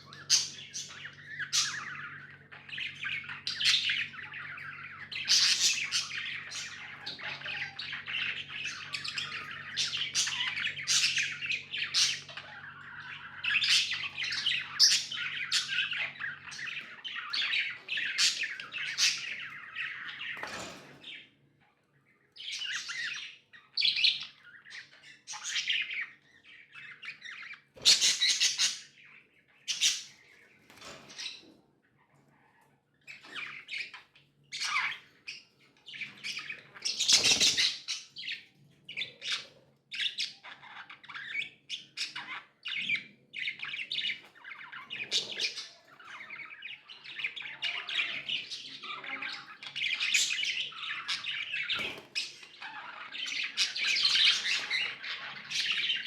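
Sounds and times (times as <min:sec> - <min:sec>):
budgerigars chirping and warbling: 0:00.0 - 0:56.0.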